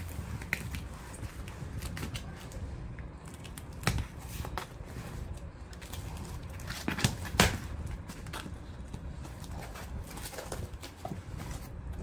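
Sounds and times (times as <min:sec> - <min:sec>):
cardboard crackling: 0:00.0 - 0:12.0.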